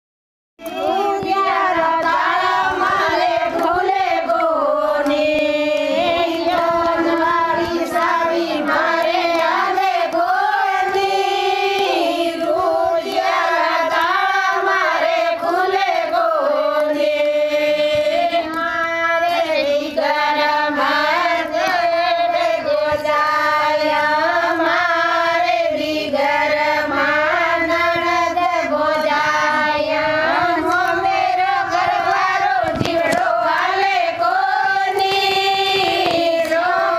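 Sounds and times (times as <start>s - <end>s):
women singing devotional song: 0.6s - 36.9s.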